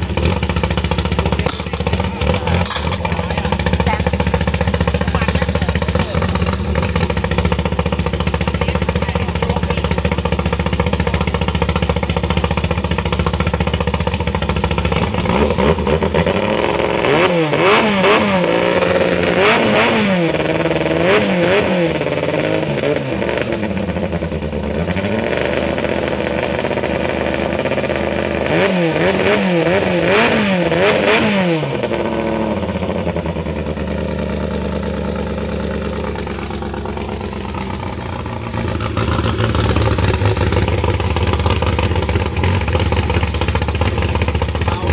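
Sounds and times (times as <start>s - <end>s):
boat engine idling and revving: 0.0s - 44.9s.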